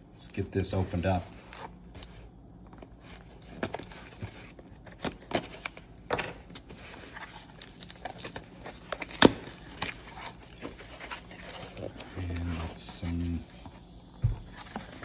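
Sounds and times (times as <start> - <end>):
cardboard and tape rustling: 0.3 - 15.0.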